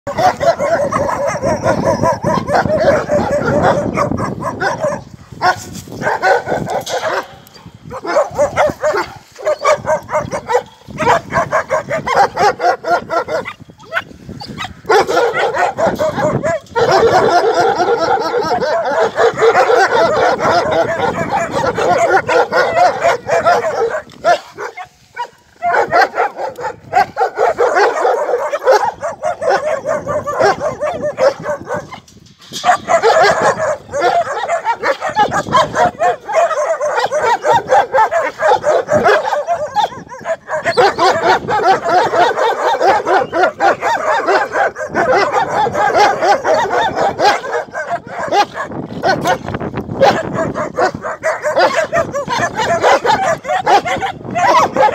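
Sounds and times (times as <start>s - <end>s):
dogs barking and yipping: 0.0s - 54.9s.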